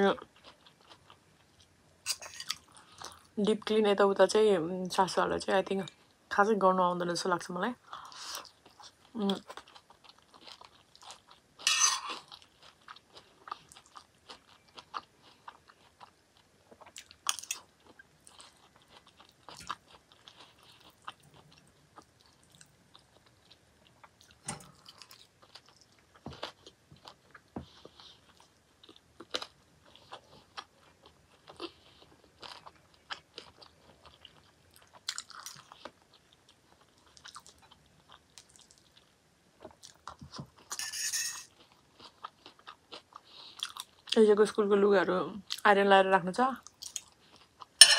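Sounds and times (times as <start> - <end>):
chewing and crunching food: 0.0 - 3.4, 7.8 - 40.8, 41.5 - 44.6, 46.6 - 47.9.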